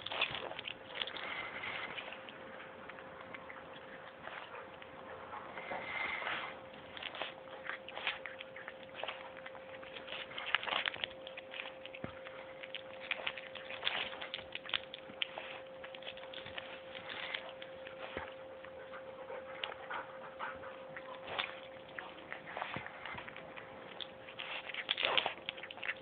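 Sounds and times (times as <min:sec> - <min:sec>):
cat crunching dry kibble: 0:00.0 - 0:26.0.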